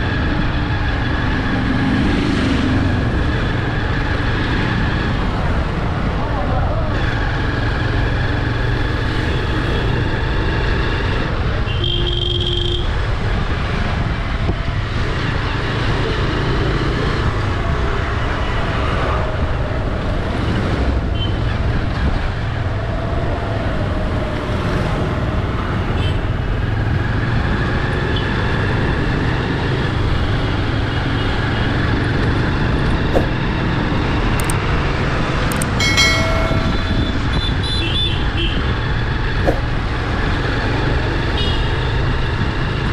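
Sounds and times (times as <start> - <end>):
traffic rumble: 0.0 - 42.9.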